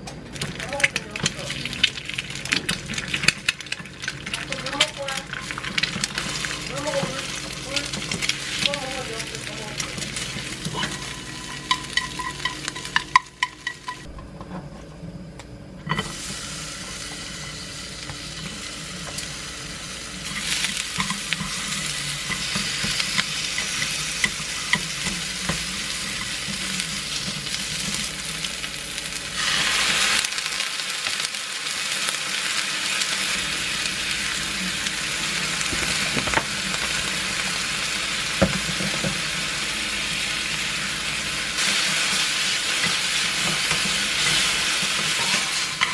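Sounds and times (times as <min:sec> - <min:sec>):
onions sizzling in frying pan: 0:00.3 - 0:14.2, 0:15.9 - 0:45.9.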